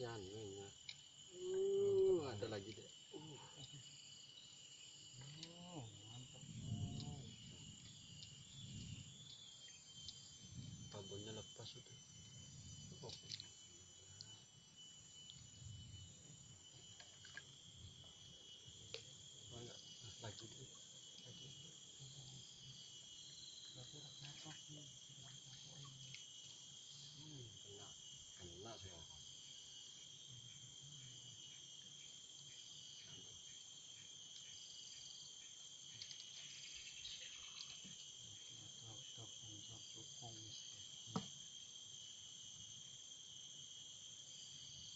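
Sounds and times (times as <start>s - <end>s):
insects chirping: 0.0s - 44.9s.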